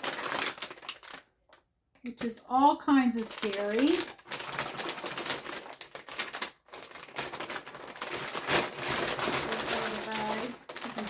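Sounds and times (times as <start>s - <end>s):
plastic bag crinkling: 0.0s - 2.4s, 3.0s - 11.0s.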